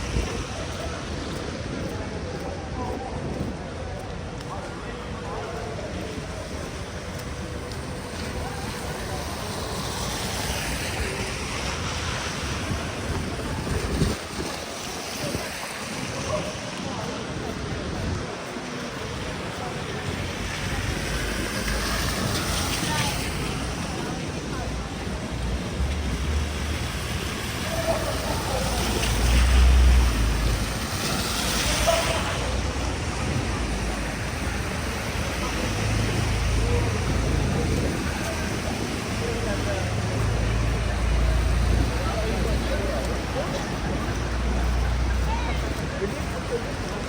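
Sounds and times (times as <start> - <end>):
wind buffeting microphone: 0.0 - 9.3, 10.1 - 47.0.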